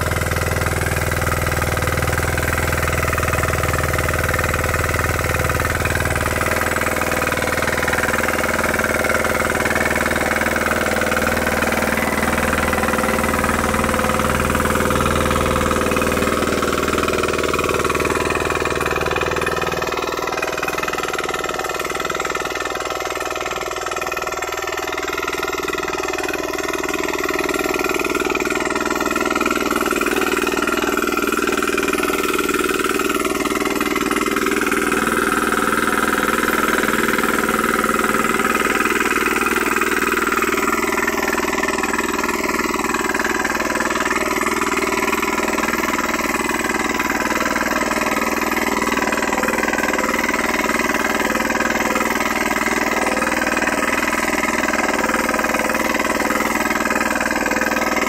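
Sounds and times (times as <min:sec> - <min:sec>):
diesel power weeder running: 0:00.0 - 0:58.0.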